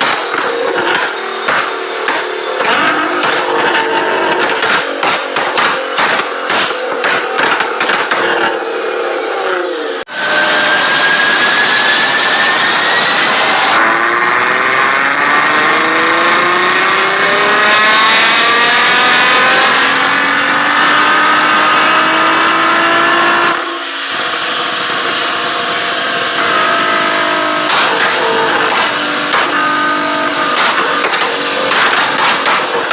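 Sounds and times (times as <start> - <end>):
car engine revving high: 0.0 - 32.9.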